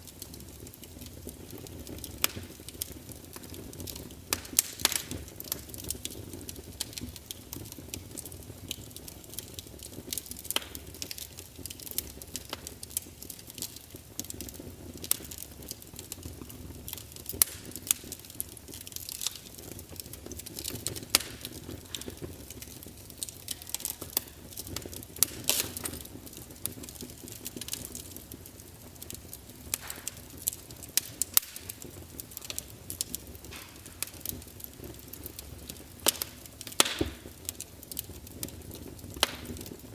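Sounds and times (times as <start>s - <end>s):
flames rushing: 0.0s - 39.9s
wood fire popping: 0.0s - 39.9s.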